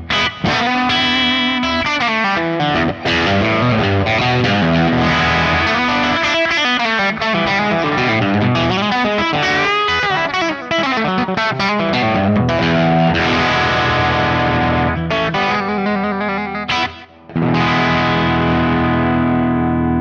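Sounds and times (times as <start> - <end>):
overdriven electric guitar: 0.0 - 20.0.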